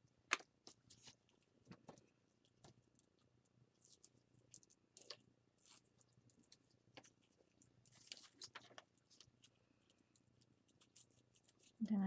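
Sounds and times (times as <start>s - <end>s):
faint rustles and small clicks: 0.0s - 12.0s.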